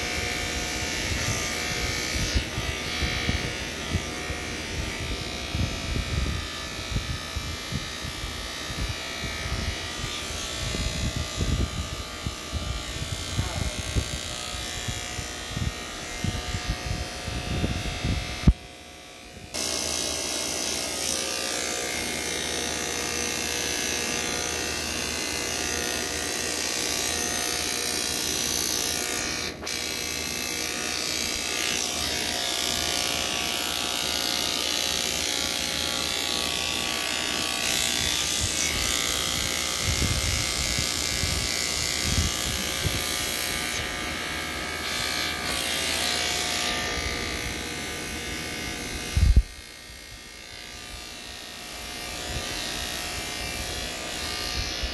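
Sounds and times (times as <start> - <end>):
electric hair clippers buzzing: 0.0 - 54.9.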